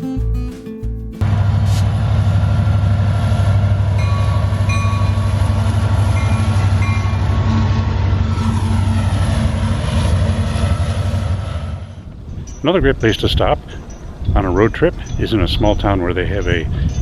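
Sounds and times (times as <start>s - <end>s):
train rumbling past: 1.2s - 17.0s.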